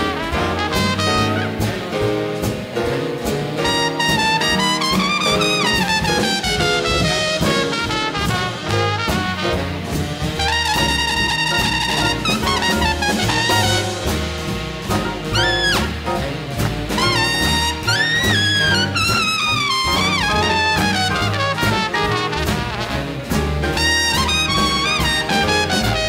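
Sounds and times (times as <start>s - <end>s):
jazz trumpet solo: 0.0s - 1.9s, 3.6s - 26.0s
big band accompaniment: 0.0s - 26.0s.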